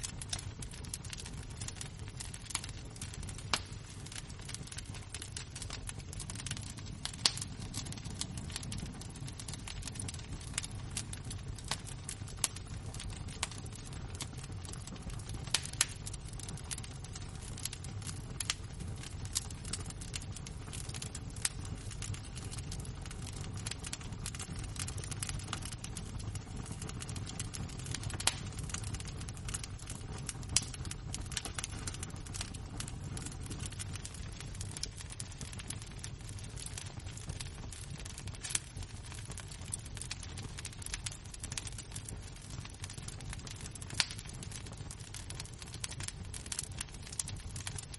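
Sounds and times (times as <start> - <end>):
embers crackling and popping: 0.0 - 47.9.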